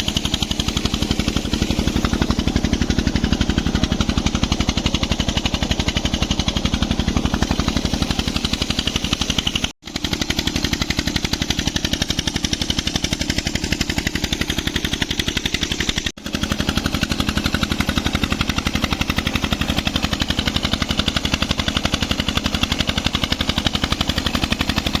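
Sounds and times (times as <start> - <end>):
diesel engine chugging: 0.0 - 25.0.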